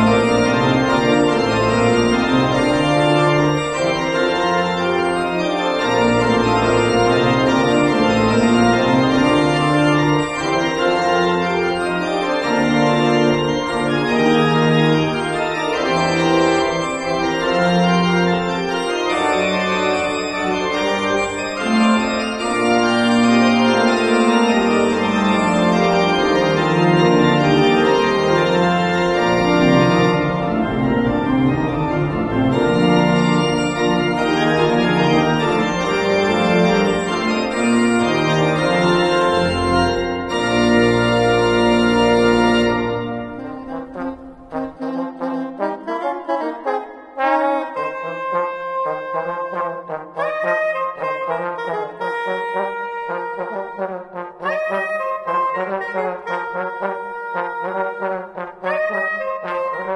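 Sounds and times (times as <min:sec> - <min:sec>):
pipe organ chords: 0:00.0 - 0:59.9.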